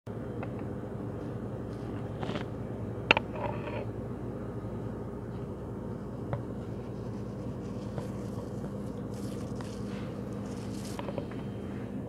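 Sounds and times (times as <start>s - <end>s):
low room hum: 0.1s - 12.0s.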